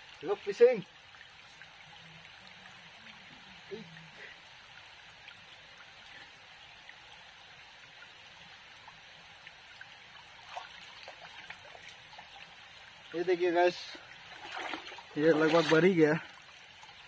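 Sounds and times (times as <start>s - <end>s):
stream trickling over rocks: 0.0s - 17.0s.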